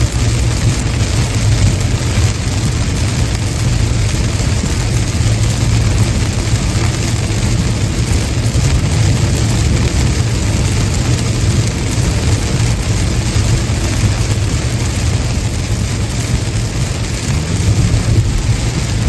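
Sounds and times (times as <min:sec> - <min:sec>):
car road rumble: 0:00.0 - 0:19.0
rain: 0:00.0 - 0:19.0
tyres hissing on wet road: 0:00.0 - 0:19.0.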